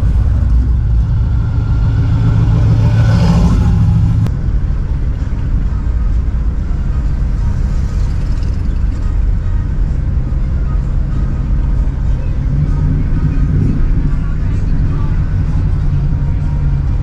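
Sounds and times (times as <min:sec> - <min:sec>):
car engine rumble: 0:00.0 - 0:17.0.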